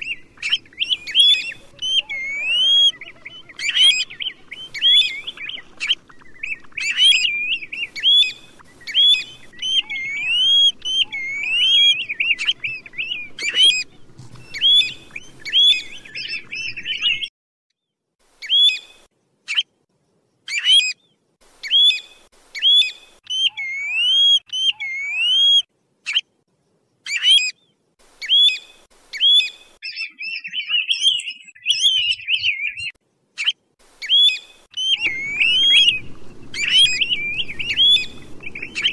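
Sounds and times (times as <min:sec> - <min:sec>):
plover whistled calls: 0:00.0 - 0:17.3, 0:21.6 - 0:26.2, 0:28.2 - 0:38.9.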